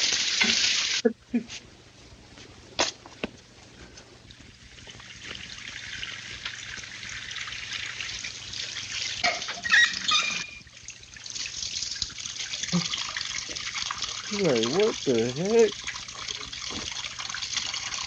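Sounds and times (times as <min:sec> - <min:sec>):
water spraying from leaking pipes: 0:00.0 - 0:01.1, 0:04.4 - 0:18.0.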